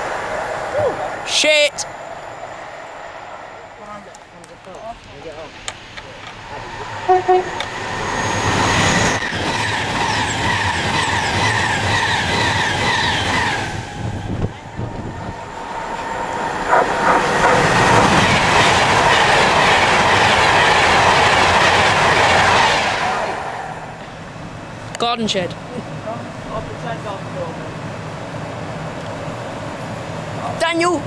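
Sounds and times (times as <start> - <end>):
steady train whine: 0.0 - 31.0
train wheels rumbling on track: 0.0 - 31.0.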